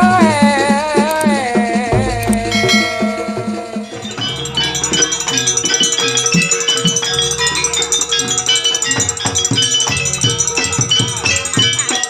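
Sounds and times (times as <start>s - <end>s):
hand drums beating: 0.0s - 12.0s
held metallophone note: 2.2s - 12.0s
ringing metallophone notes: 2.2s - 12.0s.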